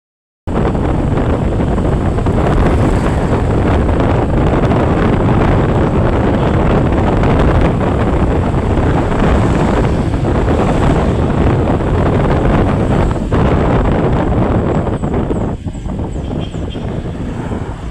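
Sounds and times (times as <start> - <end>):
vehicle running noise: 0.5 - 17.9
wind rushing over microphone: 0.5 - 17.9.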